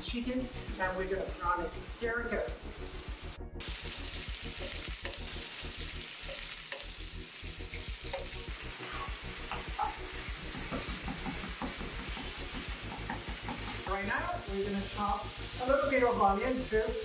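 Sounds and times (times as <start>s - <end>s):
chicken sizzling in hot oil: 0.2s - 17.0s.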